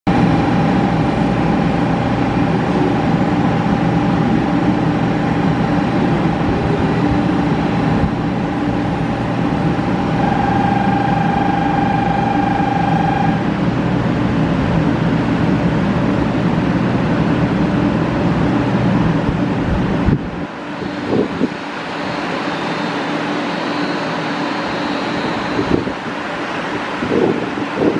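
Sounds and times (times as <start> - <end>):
train equipment hum and whine: 0.0 - 27.9.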